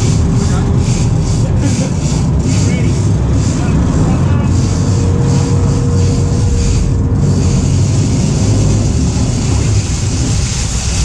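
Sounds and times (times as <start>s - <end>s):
boat engines running: 0.0s - 11.0s
water wash around stern: 0.0s - 11.0s.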